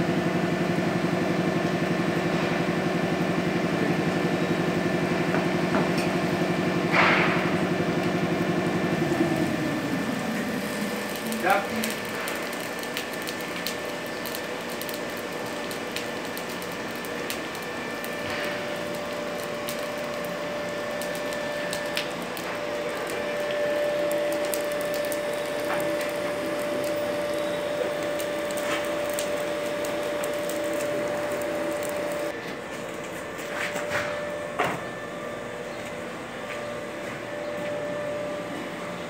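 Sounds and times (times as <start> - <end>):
thermite burning with crackles: 0.0 - 38.7.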